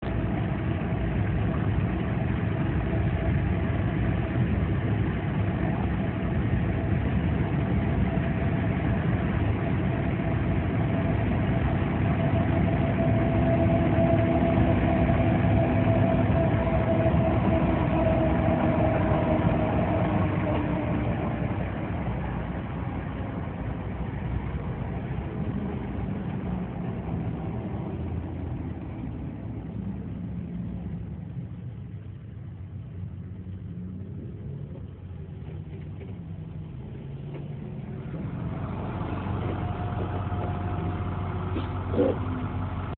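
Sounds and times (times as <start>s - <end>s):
truck engine and tyre noise: 0.0s - 42.9s
truck whine: 0.0s - 42.9s.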